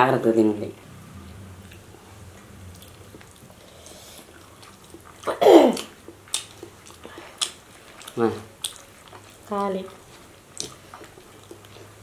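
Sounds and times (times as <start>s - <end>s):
eating by hand: 1.1s - 12.0s.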